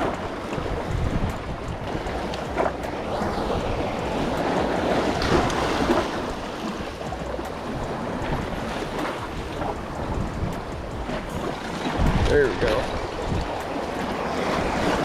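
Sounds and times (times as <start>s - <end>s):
waves washing in: 0.0s - 15.0s
wind rumbling on microphone: 0.0s - 15.0s.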